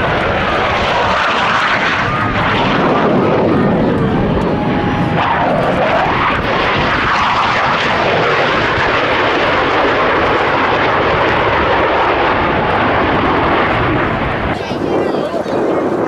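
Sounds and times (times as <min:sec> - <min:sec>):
fighter jets in flight: 0:00.0 - 0:16.0.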